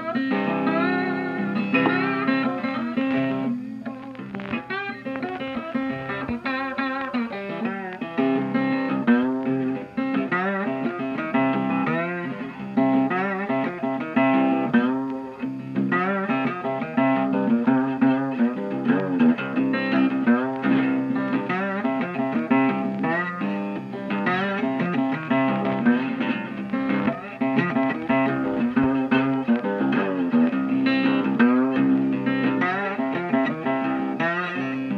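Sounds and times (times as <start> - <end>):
guitar instrumental music: 0.0 - 34.9.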